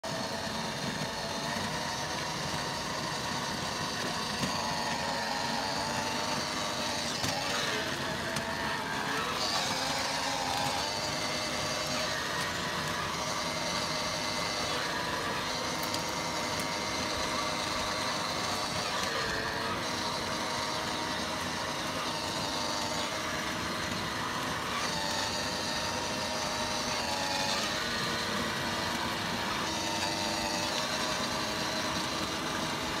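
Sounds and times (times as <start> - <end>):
electric toy car motor whine: 0.0 - 33.0
plastic wheels rolling on asphalt: 0.0 - 33.0.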